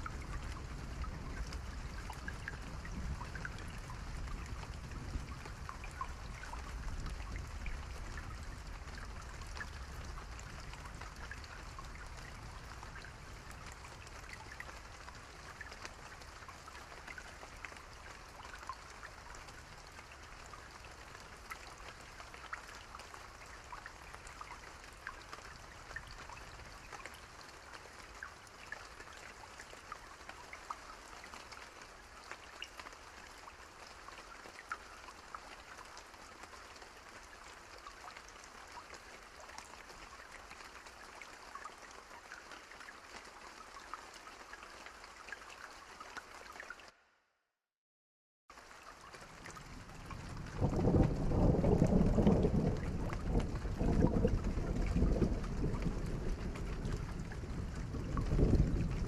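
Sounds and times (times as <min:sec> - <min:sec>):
raindrops pattering on a surface: 0:00.0 - 0:47.0, 0:48.5 - 0:59.0
steady rain hiss: 0:00.0 - 0:47.0, 0:48.6 - 0:59.0.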